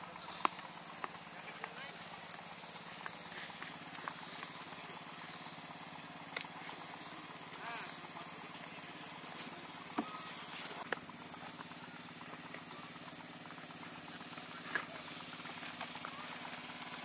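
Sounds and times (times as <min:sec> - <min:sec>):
faint clicks and chirps: 0:00.0 - 0:07.5, 0:08.1 - 0:17.0
insects chirring: 0:00.0 - 0:17.0.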